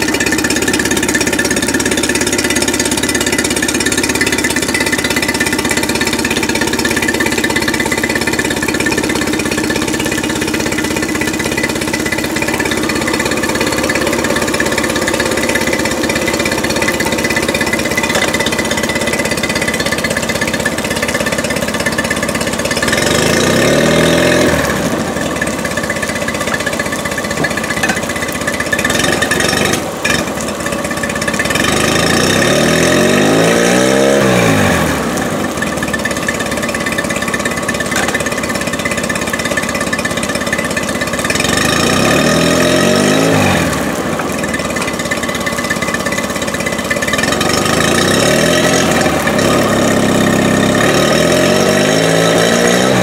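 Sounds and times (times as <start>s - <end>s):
outboard engine revving: 0.0s - 53.0s.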